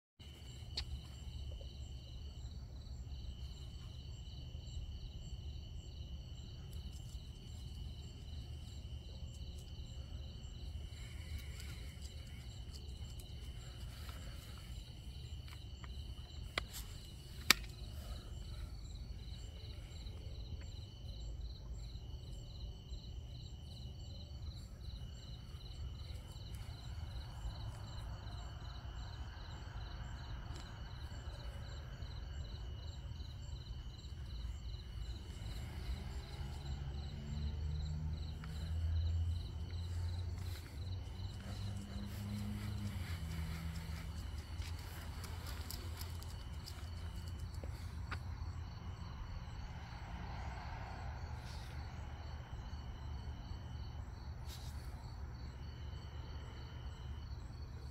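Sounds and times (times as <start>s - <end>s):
crickets trilling: 0.2s - 57.9s
pulsing insect chirp: 0.2s - 57.9s.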